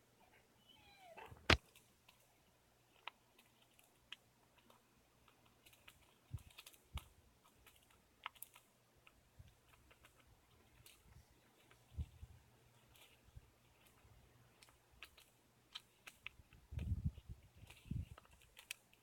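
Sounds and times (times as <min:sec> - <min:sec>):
light clicks and taps: 0:02.9 - 0:19.0.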